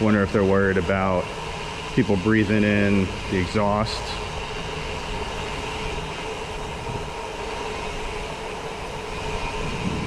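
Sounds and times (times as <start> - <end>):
bicycle tyres rolling on trail: 0.0 - 10.0
moving air: 0.0 - 10.0.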